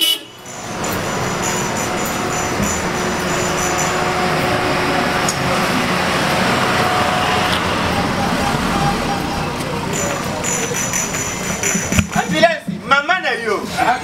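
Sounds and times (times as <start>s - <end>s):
street traffic: 0.0s - 14.0s
faint vehicle engine hum: 0.4s - 12.2s.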